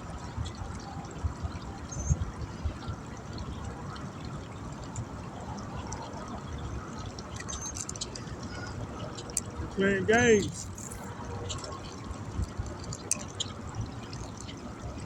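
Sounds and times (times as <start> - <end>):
water trickling: 0.0 - 15.0
wind rumble on microphone: 0.0 - 15.0.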